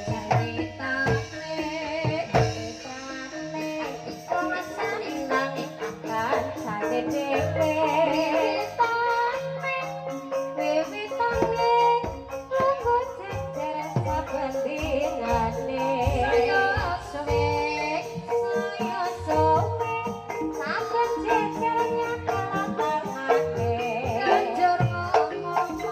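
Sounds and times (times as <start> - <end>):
traditional accompaniment: 0.0 - 25.9
woman singing ornamented melody: 0.0 - 25.9.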